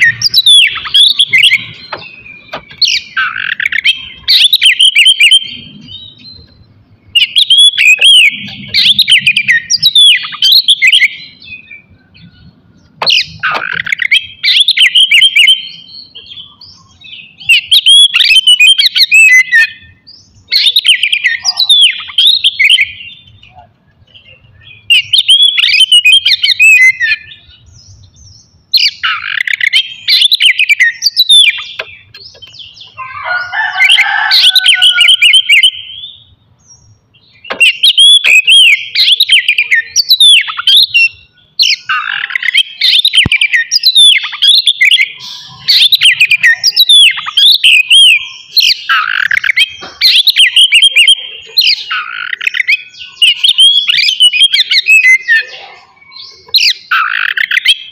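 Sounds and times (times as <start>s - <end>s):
bird singing whistles and chatter: 0.0s - 57.9s.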